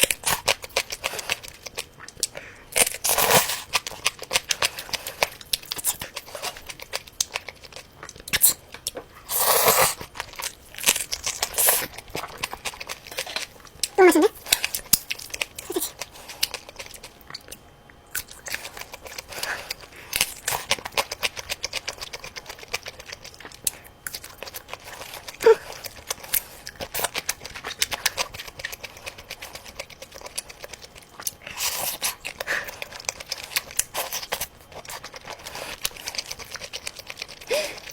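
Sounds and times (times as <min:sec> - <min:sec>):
person chewing sausages: 0:00.0 - 0:37.9.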